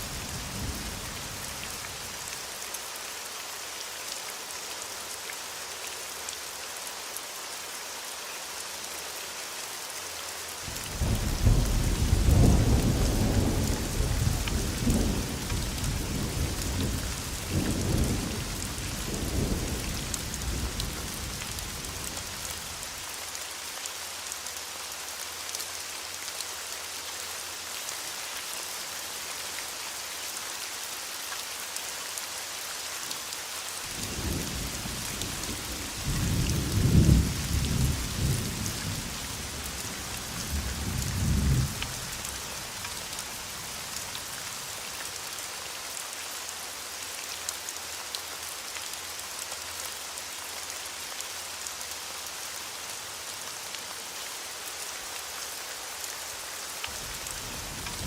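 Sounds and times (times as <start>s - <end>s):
rain hissing on a surface: 0.0s - 58.0s.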